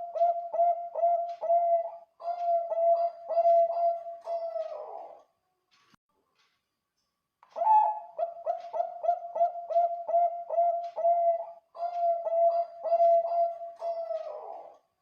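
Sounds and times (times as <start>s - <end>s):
dove cooing: 0.0s - 5.2s, 7.6s - 14.8s.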